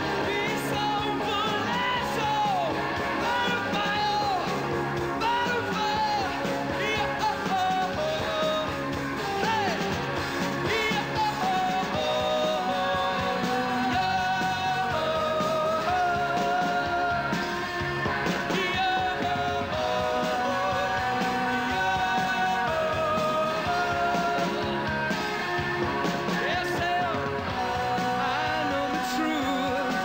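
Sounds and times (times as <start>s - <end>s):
man singing: 0.0s - 25.6s, 26.2s - 30.0s
drums: 0.0s - 30.0s
electric guitar: 0.0s - 30.0s.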